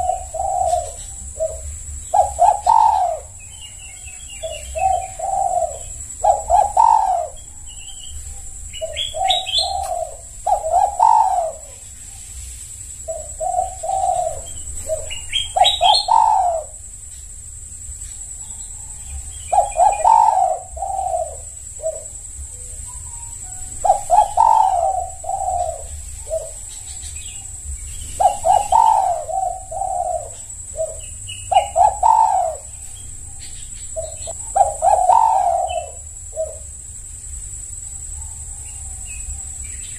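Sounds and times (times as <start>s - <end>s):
dove cooing: 0.0s - 12.0s, 13.0s - 16.9s, 18.2s - 36.8s.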